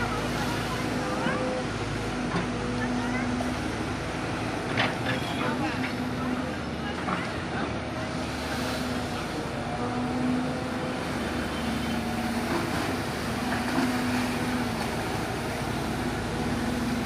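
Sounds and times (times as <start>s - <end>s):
backhoe loader diesel engine: 0.0s - 17.0s.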